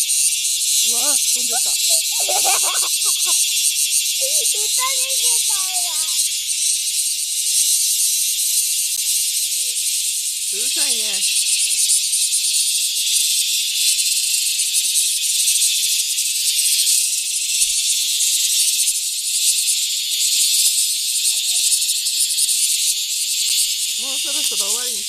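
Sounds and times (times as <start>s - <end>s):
cicadas buzzing: 0.0s - 25.0s.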